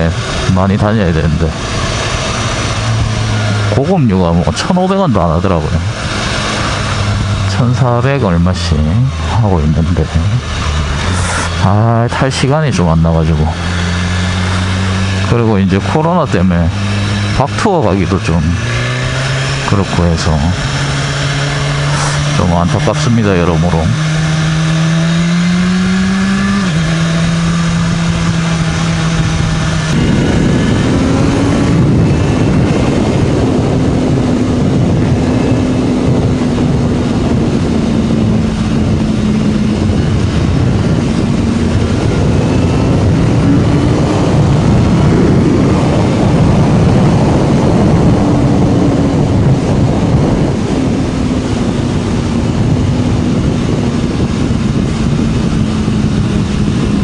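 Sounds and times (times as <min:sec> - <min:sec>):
motorcycle engine cruising: 0:00.0 - 0:57.0
wind rush on microphone: 0:00.0 - 0:57.0.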